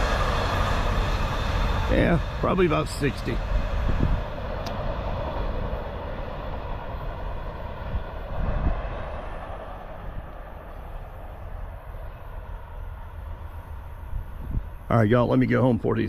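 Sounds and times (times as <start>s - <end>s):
train wheels rushing on rails: 0.0s - 14.9s.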